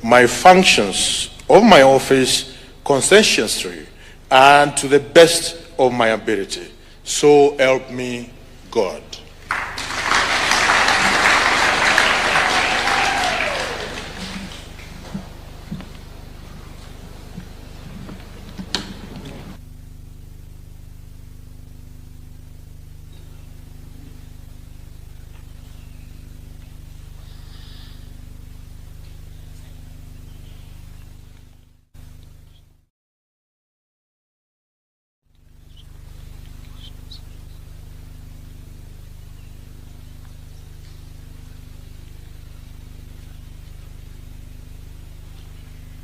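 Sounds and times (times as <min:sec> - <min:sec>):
low electrical hum: 0:00.0 - 0:32.9, 0:35.3 - 0:46.0.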